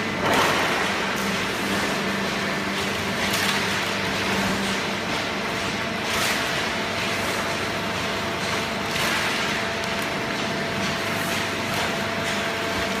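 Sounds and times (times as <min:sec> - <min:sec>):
baling machinery running: 0:00.0 - 0:13.0.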